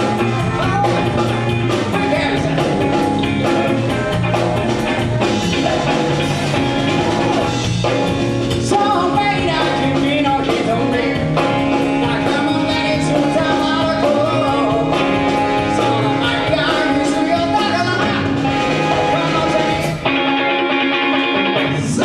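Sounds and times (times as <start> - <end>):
person singing: 0.0 - 7.6, 8.5 - 20.1, 21.3 - 22.0
drum kit beat: 0.0 - 22.0
guitar: 0.0 - 22.0.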